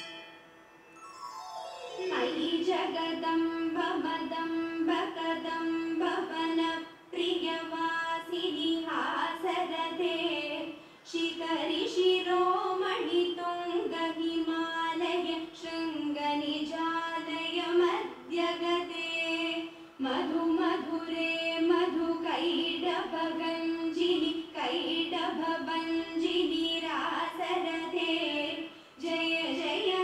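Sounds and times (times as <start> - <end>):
woman singing devotional song: 2.0 - 30.0.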